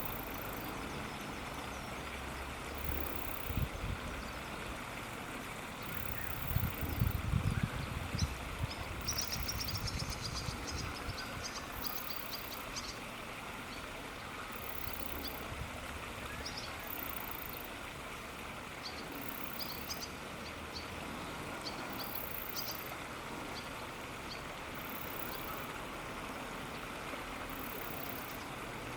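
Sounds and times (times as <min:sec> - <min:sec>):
faint high hiss: 0:00.0 - 0:28.9
flowing water: 0:00.0 - 0:28.9.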